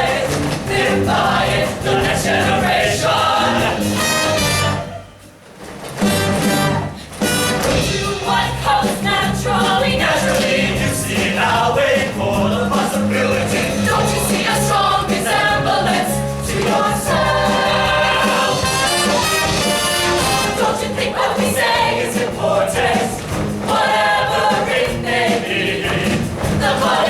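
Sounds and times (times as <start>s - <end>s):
choir singing: 0.0s - 5.0s, 7.7s - 27.0s
instrumental accompaniment: 0.0s - 27.0s.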